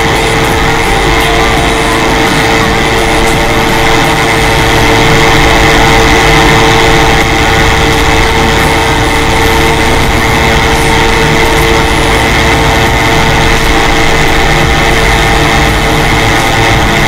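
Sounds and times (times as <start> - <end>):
aircraft engine drone: 0.0 - 17.0
rushing air: 0.0 - 17.0.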